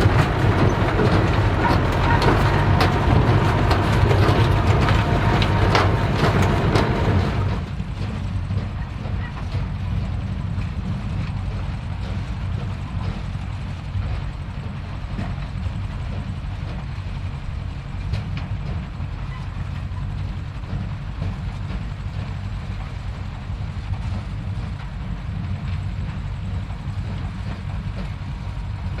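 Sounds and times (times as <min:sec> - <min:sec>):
tractor engine droning: 0:00.0 - 0:29.0.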